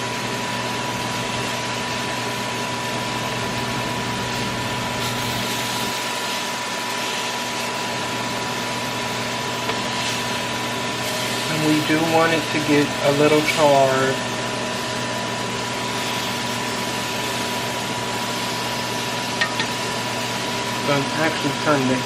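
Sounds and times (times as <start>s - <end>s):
exhaust fan rushing hiss: 0.0s - 22.0s
fan high whine: 0.0s - 22.0s
fan low hum: 0.0s - 22.0s.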